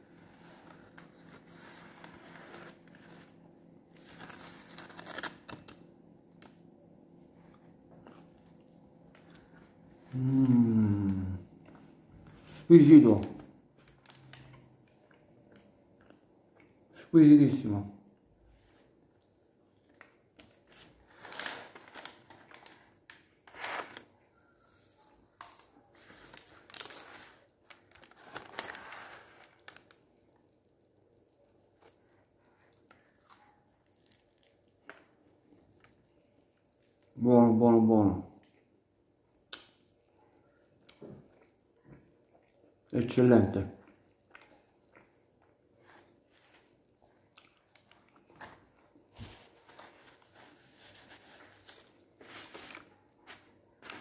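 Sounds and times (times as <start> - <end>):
flaky pastry crackling while chewed: 7.4 - 17.0, 18.2 - 37.2, 38.3 - 54.0.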